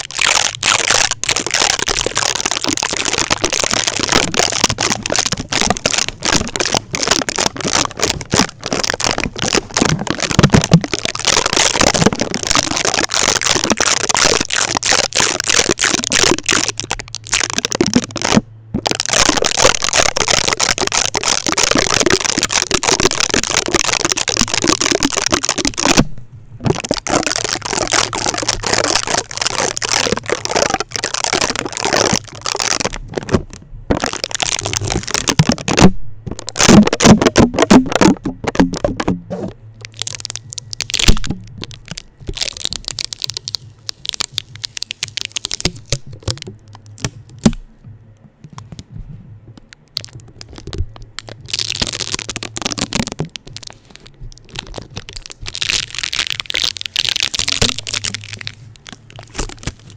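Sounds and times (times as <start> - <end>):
adhesive tape crackling on microphone: 0.0 - 59.9.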